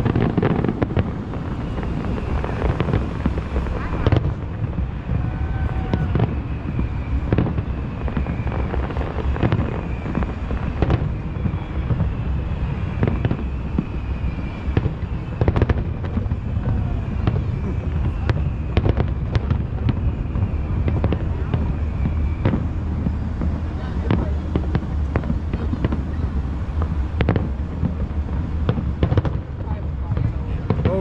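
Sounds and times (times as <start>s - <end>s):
fireworks booming and crackling: 0.0s - 31.0s
low rumble: 0.0s - 31.0s.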